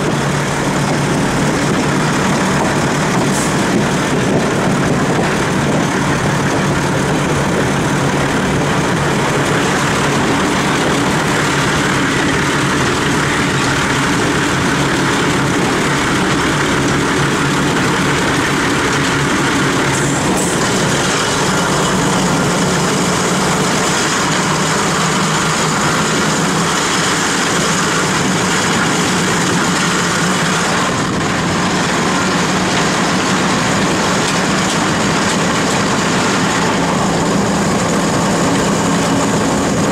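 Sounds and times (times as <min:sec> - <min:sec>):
train engine drone: 0:00.0 - 0:39.9
wheels rumbling on rails: 0:00.0 - 0:39.9.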